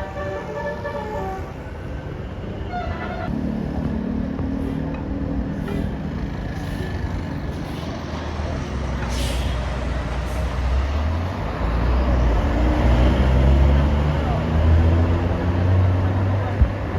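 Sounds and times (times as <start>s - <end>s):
heavy bus engine running: 0.0s - 16.9s.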